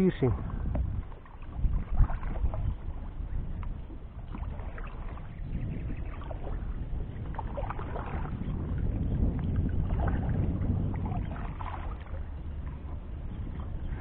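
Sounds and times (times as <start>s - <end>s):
water splashing: 0.0s - 14.0s
steady low rumble: 0.2s - 14.0s.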